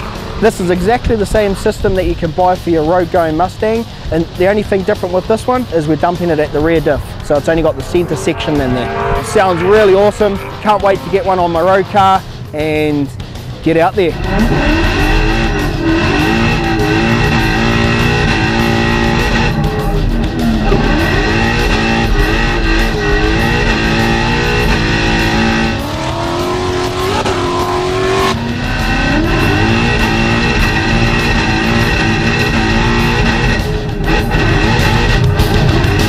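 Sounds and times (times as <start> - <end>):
car engine revving: 0.0 - 36.0
rock music with guitar: 3.9 - 36.0.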